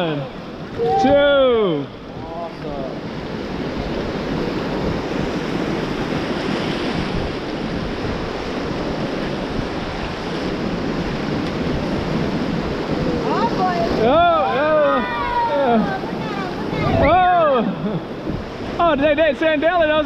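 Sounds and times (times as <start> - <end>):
river rapids rushing: 0.0 - 20.0
wind buffeting microphone: 0.0 - 20.0.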